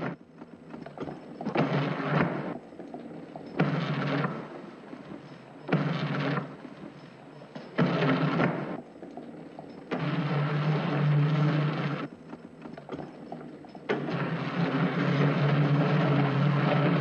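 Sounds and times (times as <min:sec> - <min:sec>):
plastic wheels rolling on hardwood: 0:00.8 - 0:17.0.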